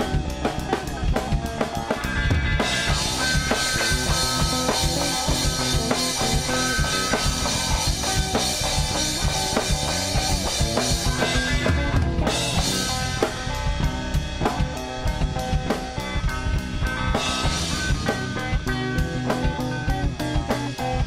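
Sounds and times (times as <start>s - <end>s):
music with drum beat: 0.0s - 21.0s.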